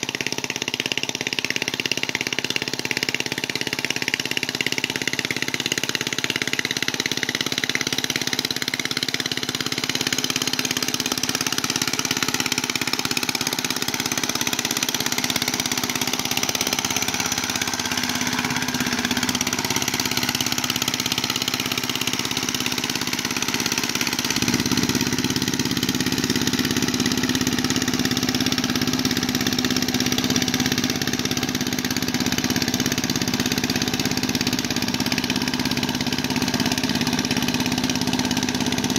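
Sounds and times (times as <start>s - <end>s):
tiller engine running under load: 0.0s - 38.9s.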